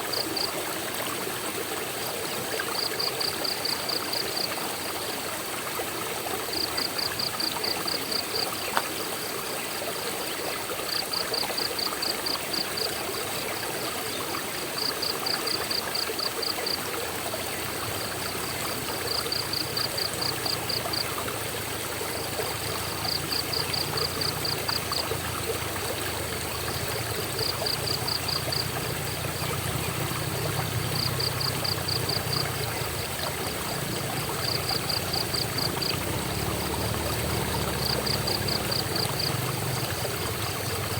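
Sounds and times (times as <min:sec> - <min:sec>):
waterfall and stream rushing: 0:00.0 - 0:40.9.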